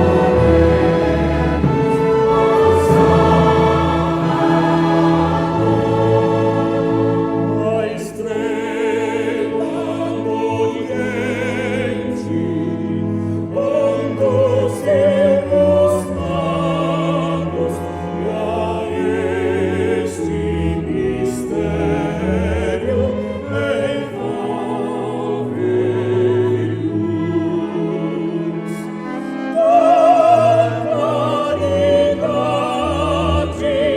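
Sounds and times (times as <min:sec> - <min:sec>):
operatic singing voice: 0:00.0 - 0:33.9
orchestral chords: 0:00.0 - 0:33.9.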